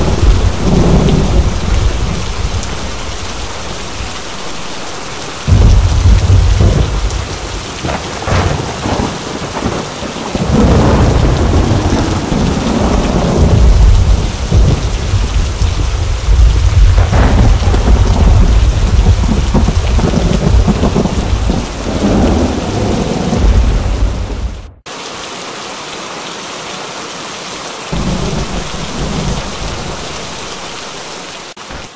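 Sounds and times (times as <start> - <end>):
low thunder rumbling: 0.0 - 4.3, 5.4 - 24.8, 27.9 - 30.6
heavy rain: 0.0 - 31.9.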